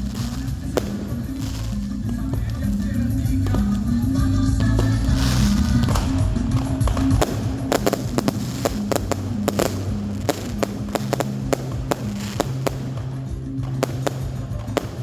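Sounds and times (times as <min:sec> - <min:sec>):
fireworks banging: 0:00.0 - 0:15.0
music playing: 0:00.0 - 0:15.0.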